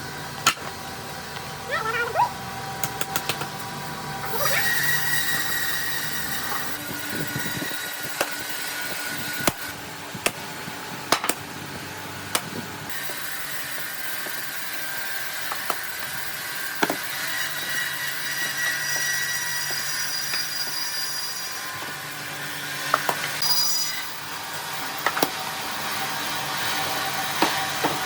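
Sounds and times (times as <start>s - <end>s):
woodworking machinery running: 0.0s - 28.0s.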